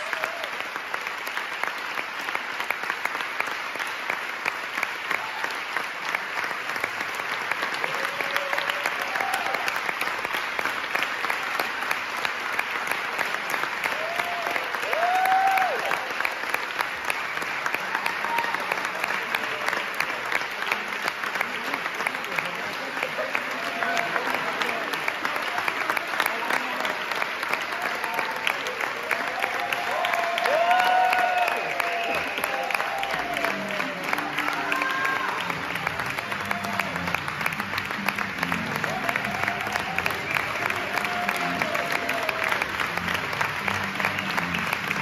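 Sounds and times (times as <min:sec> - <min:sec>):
audience applauding: 0:00.0 - 0:45.0.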